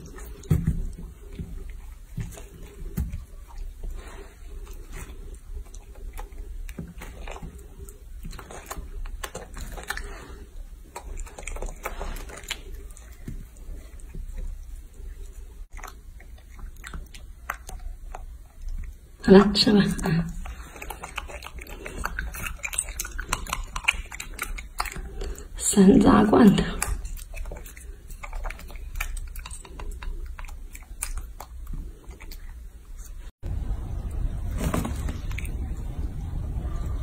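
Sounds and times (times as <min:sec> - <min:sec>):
monkey chewing wetly: 0:00.0 - 0:34.4
low background hum: 0:00.0 - 0:37.0.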